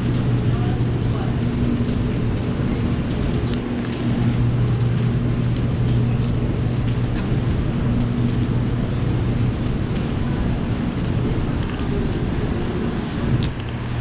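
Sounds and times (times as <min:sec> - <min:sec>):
rain falling: 0:00.0 - 0:14.0
raindrops ticking: 0:00.0 - 0:14.0
steady low hum: 0:00.0 - 0:14.0.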